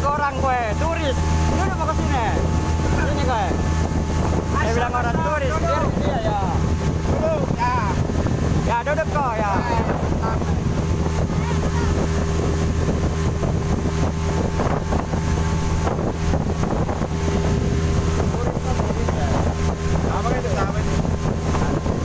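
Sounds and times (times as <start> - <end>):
outboard motor running: 0.0 - 22.0
wind buffeting microphone: 0.0 - 22.0.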